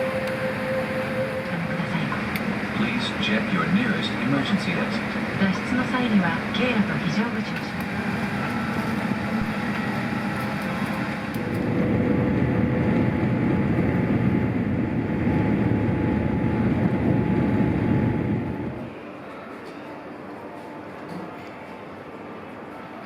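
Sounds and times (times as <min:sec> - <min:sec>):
airliner cabin engine rumble: 0:00.0 - 0:18.9.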